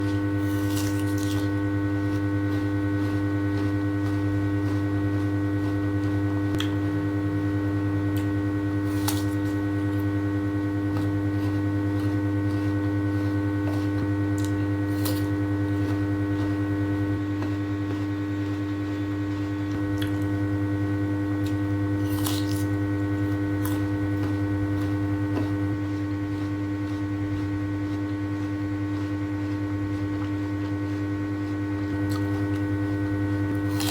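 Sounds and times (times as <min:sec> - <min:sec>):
electrical hum: 0:00.0 - 0:33.9.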